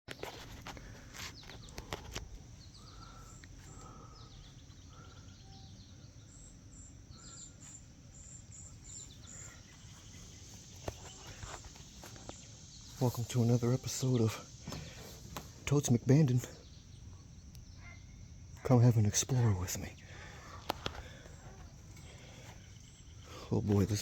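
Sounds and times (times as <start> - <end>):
small birds chirping: 0.1 - 24.0
steady low background noise: 0.3 - 24.0.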